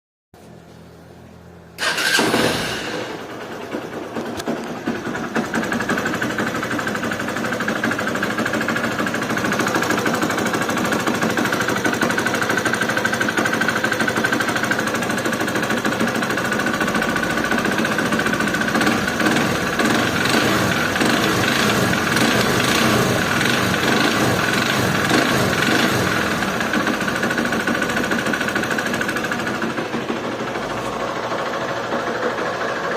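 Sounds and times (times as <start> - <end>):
engine idling with mechanical clatter: 1.8 - 32.9
motorcycle engine starting: 1.8 - 32.9.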